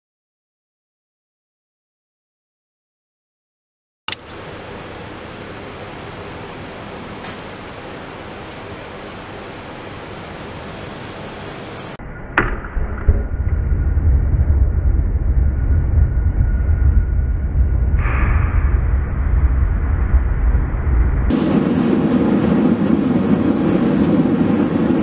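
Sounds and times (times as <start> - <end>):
forge burner rumbling: 4.2 - 25.0.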